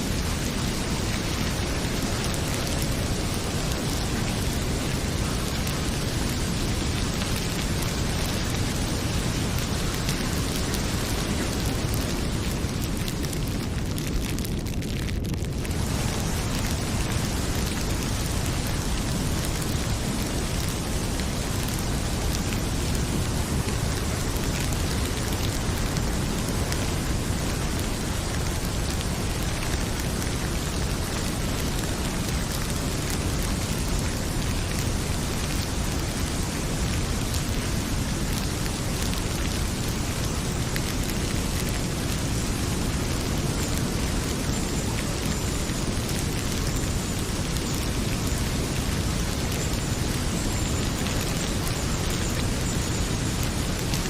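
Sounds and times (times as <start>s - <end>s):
heavy rain falling: 0.0s - 54.0s
wood fire crackling: 0.0s - 54.0s.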